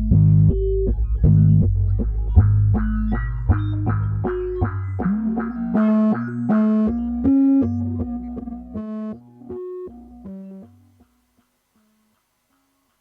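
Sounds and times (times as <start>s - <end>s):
synth bass line: 0.0s - 10.6s.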